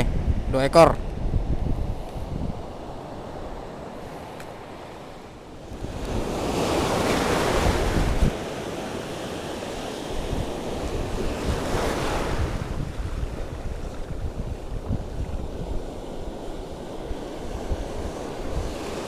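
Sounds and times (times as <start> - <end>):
wind rumbling on microphone: 0.0 - 19.0
sea waves washing over rocks: 2.6 - 19.0.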